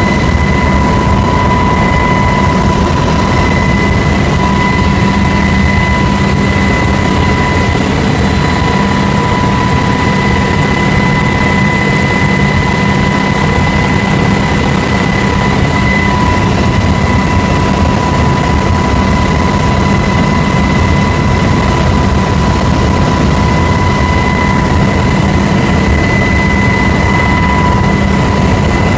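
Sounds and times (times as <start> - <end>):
aircraft engine drone: 0.0 - 28.9
high-pitched whine: 0.0 - 28.9.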